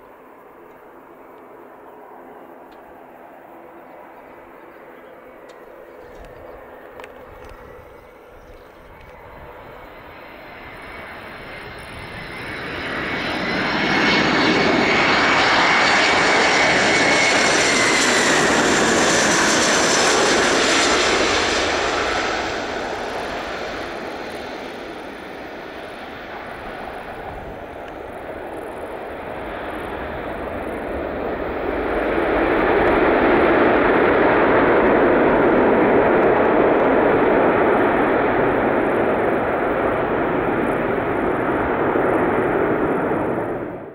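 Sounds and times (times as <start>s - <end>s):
jet engines on landing: 0.0s - 43.9s.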